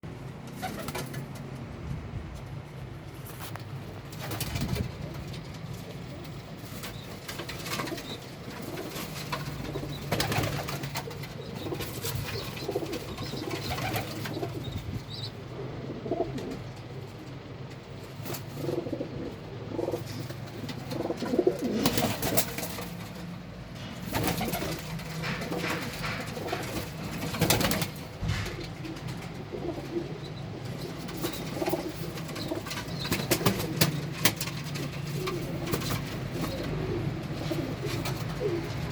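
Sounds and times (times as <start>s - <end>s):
birds clicking and rustling: 0.3s - 1.7s, 2.4s - 38.9s
pigeons cooing: 4.1s - 38.9s.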